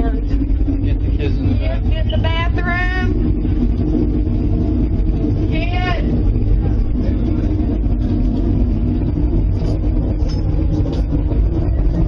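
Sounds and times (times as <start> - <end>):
strong wind rumbling: 0.0 - 12.0.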